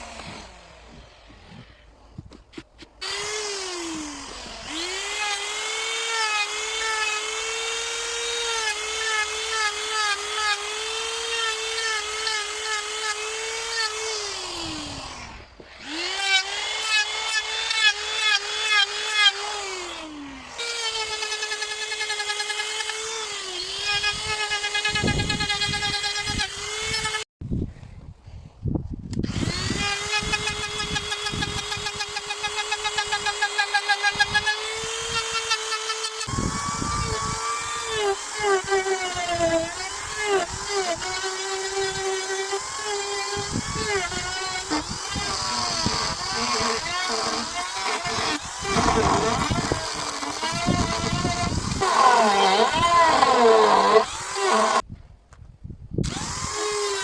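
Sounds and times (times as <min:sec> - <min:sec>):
power tool cutting wood: 0:00.0 - 0:02.0, 0:03.0 - 0:27.3, 0:29.2 - 0:54.8, 0:56.0 - 0:57.0
power tool motor whining: 0:00.0 - 0:27.2, 0:29.2 - 0:54.8, 0:56.0 - 0:57.0.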